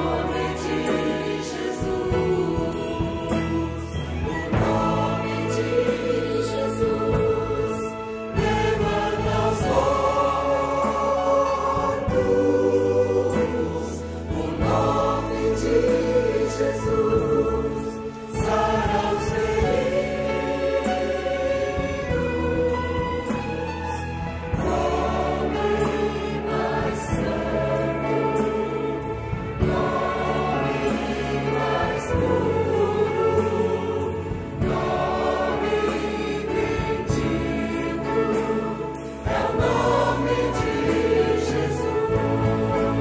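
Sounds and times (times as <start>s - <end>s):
mixed choir singing: 0.0s - 43.0s
orchestra playing: 0.0s - 43.0s.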